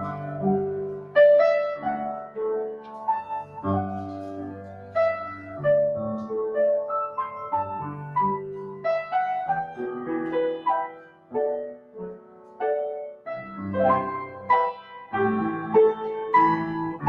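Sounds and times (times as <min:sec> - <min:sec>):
solo upright piano piece: 0:00.0 - 0:17.0.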